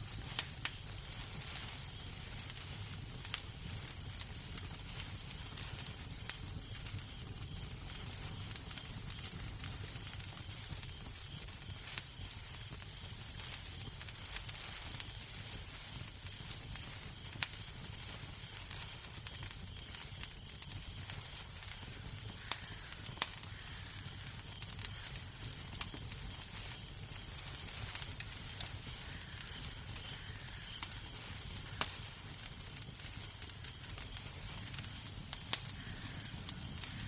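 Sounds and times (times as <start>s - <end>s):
fire hiss and rumble: 0.0s - 37.0s
fire popping: 0.0s - 37.0s
wood fire crackling: 0.0s - 37.0s.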